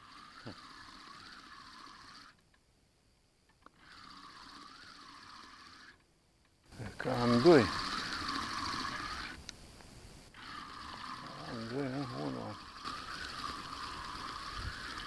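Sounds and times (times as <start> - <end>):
fishing reel cranking: 0.0 - 2.5, 3.6 - 6.0, 6.7 - 9.4, 10.3 - 15.0.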